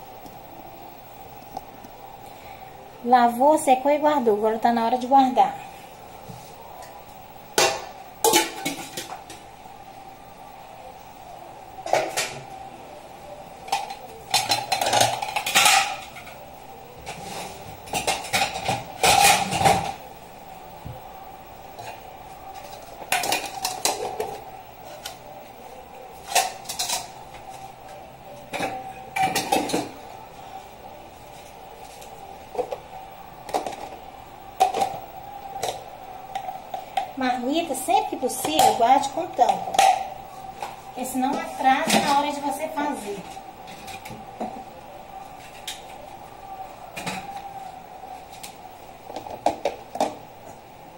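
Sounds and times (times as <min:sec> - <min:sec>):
faint hum: 0:00.0 - 0:50.9.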